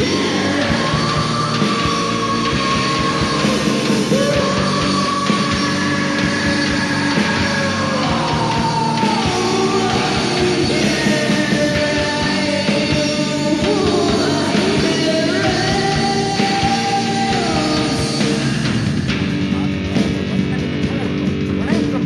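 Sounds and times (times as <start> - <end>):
person singing: 0.0 - 22.0
rock band music: 0.0 - 22.0.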